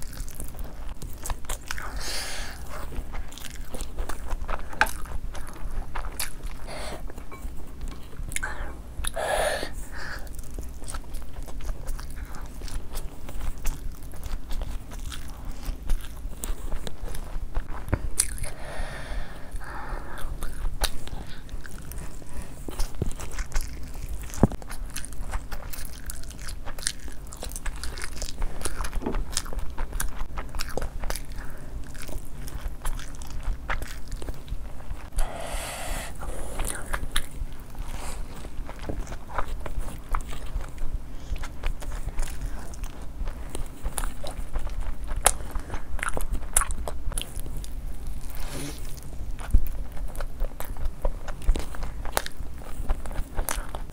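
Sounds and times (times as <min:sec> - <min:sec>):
person crunching and chewing: 0:00.0 - 0:53.9.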